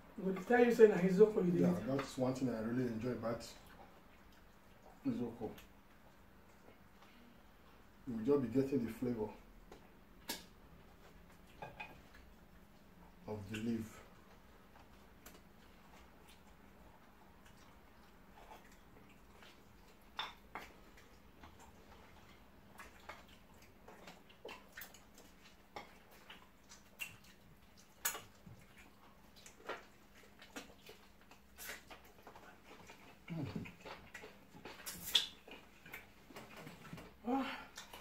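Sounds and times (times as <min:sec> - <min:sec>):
mouth smacks and chewing: 0:03.4 - 0:08.0, 0:09.4 - 0:38.0.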